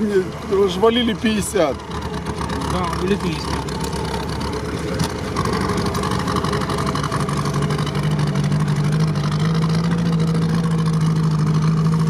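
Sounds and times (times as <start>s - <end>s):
engine running from inside cab: 0.0s - 12.0s.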